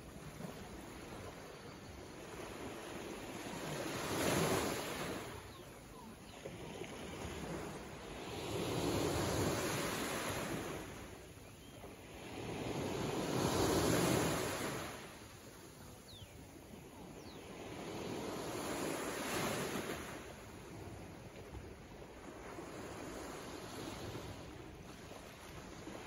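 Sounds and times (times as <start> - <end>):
small waves washing onto shore: 0.0 - 26.0.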